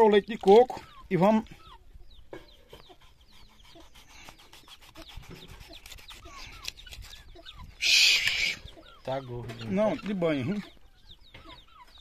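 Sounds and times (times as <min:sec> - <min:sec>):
chickens chirping: 0:00.0 - 0:12.0.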